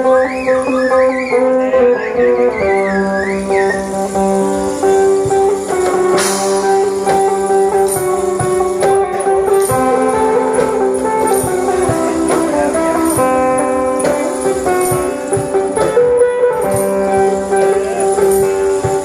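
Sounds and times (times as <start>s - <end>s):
plucked lute melody with drone: 0.0s - 19.0s.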